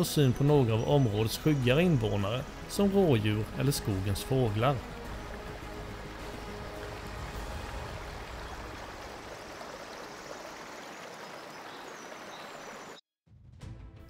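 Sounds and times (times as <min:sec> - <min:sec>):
stream rushing over stones: 0:00.5 - 0:13.0.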